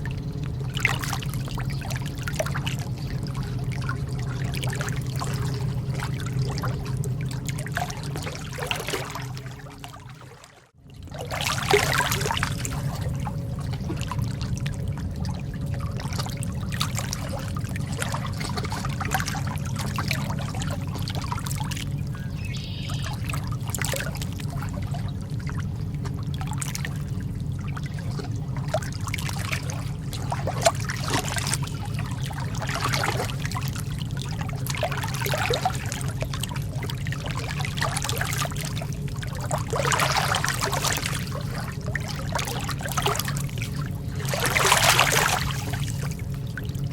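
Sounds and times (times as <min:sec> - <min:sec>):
lake water lapping: 0:00.0 - 0:46.9
steady low rumble: 0:00.0 - 0:46.9.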